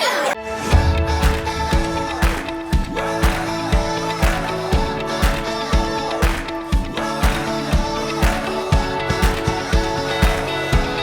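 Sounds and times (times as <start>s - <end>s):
music with steady beat: 0.7s - 11.0s.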